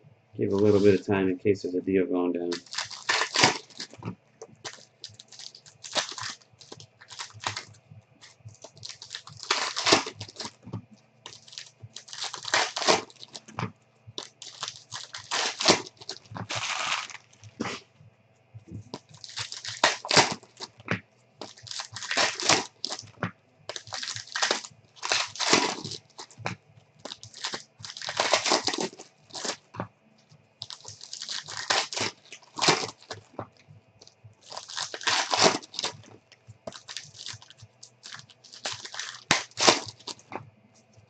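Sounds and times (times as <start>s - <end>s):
wrappers crinkling and tearing: 0.4s - 1.0s, 2.5s - 17.8s, 18.9s - 29.8s, 30.6s - 40.4s.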